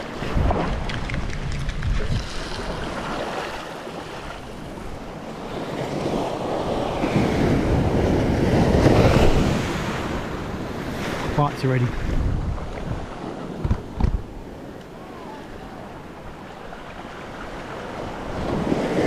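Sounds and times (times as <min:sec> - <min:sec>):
wind buffeting microphone: 0:00.0 - 0:03.5, 0:04.4 - 0:16.4, 0:17.0 - 0:19.0
surf washing up beach: 0:00.0 - 0:19.0.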